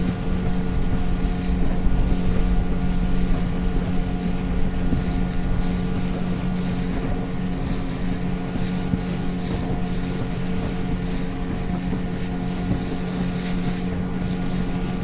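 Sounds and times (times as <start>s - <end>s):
motorboat engine humming: 0.0s - 15.0s
water rushing: 0.0s - 15.0s
wind: 0.0s - 15.0s.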